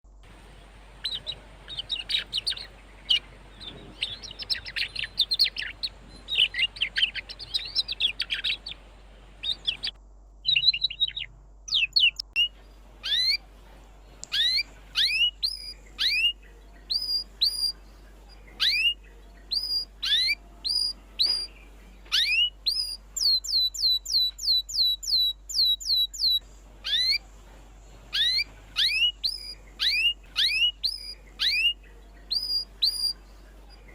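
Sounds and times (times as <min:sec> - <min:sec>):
canaries twittering: 0:00.3 - 0:33.9.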